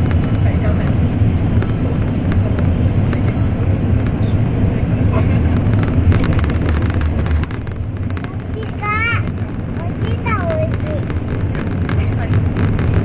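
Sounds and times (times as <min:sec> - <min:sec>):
train rumble inside cabin: 0:00.0 - 0:13.0.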